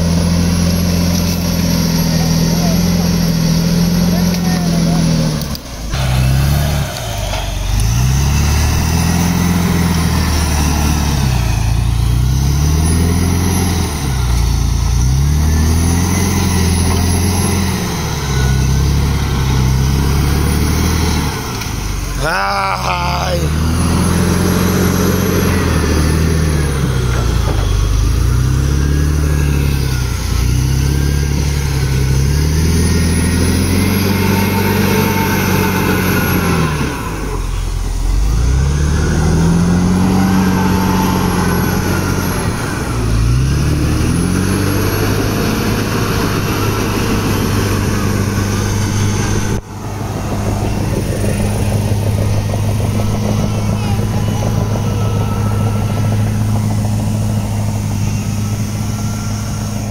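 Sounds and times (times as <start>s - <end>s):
dozer diesel engine working hard: 0.0s - 59.9s.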